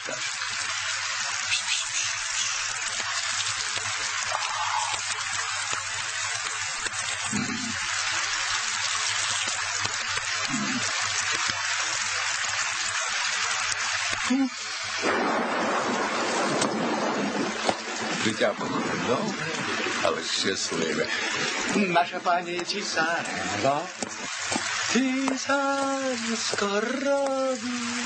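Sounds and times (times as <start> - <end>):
rushing hiss of water: 0.0 - 28.0.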